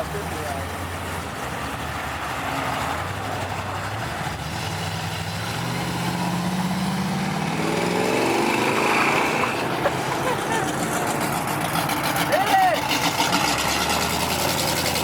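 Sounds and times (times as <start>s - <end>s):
diesel truck engine: 0.0s - 15.0s.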